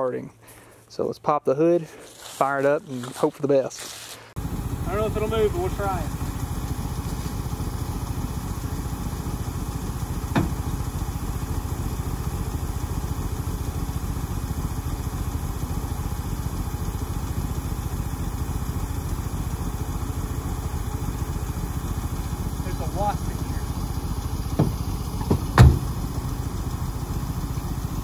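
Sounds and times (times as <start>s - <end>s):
car engine idling: 4.4s - 28.0s.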